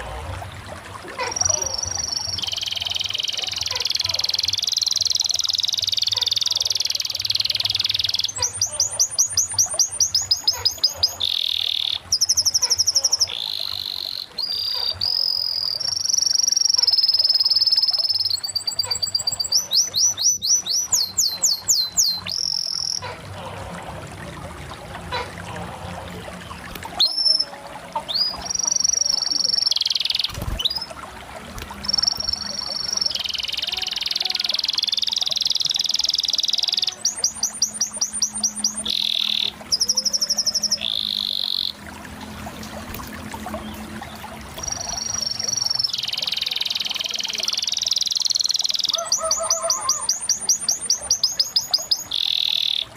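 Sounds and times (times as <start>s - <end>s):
canary singing: 1.2s - 23.2s, 26.7s - 30.9s, 31.8s - 41.8s, 44.6s - 52.9s.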